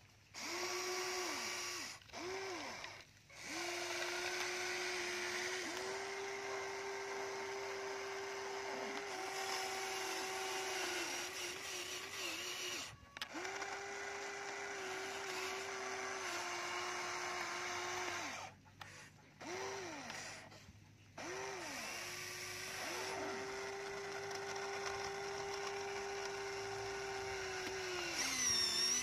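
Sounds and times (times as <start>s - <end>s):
toy excavator motors whining: 0.0s - 29.0s.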